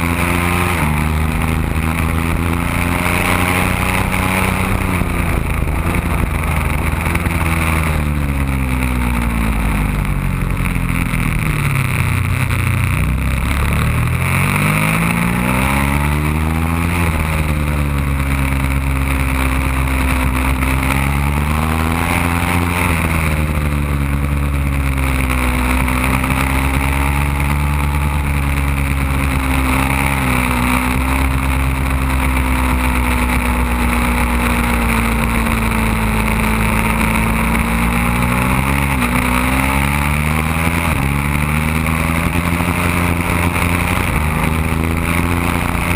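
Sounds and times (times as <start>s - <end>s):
motorcycle engine at speed: 0.0s - 45.9s.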